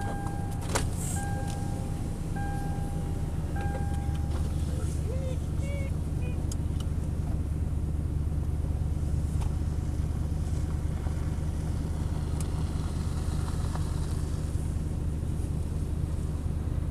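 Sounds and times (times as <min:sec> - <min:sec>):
pickup truck engine idling: 0:00.0 - 0:16.9.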